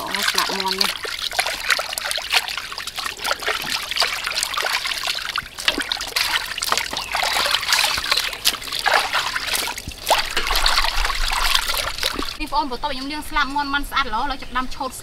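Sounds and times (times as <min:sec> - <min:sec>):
water splashing and trickling: 0:00.0 - 0:13.2.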